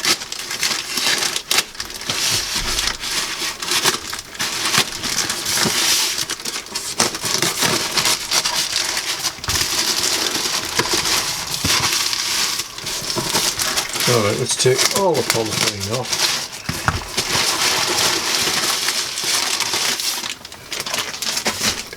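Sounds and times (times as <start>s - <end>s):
bubble wrap crinkling: 0.0s - 21.9s
sharp plastic crackles: 0.0s - 21.9s.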